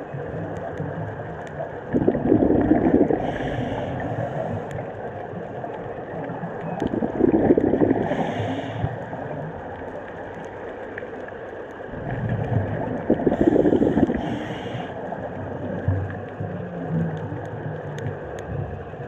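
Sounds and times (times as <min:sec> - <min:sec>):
exhaled bubbles gurgling underwater: 0:00.0 - 0:19.0.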